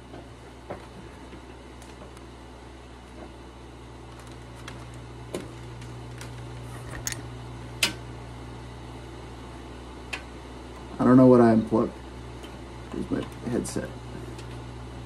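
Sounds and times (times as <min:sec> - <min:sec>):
computer hum: 0:00.0 - 0:15.0.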